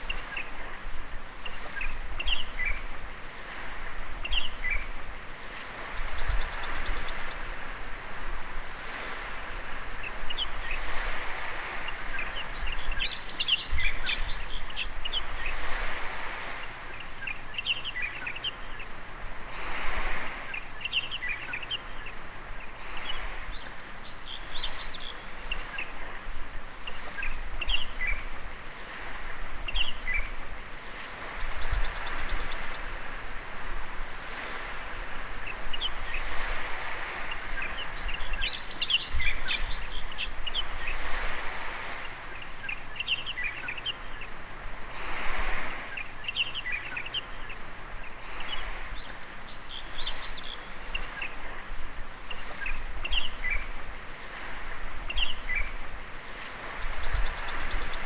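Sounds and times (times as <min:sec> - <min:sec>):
small waves washing on sand: 0:00.0 - 0:58.0
birds chirping: 0:01.4 - 0:05.0, 0:05.7 - 0:08.0, 0:08.9 - 0:19.1, 0:19.9 - 0:33.4, 0:34.2 - 0:44.7, 0:45.3 - 0:58.0.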